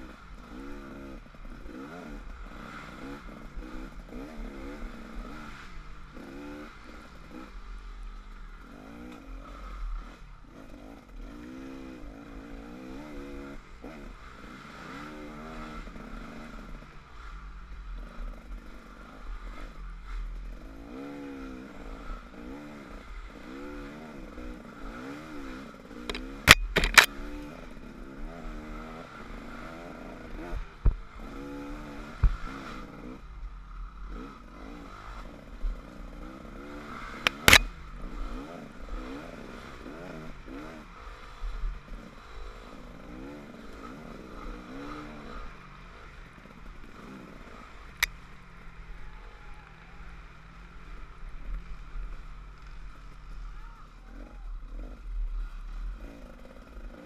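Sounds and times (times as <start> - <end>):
dirt bike engine revving: 0.0 - 33.2, 33.8 - 57.0.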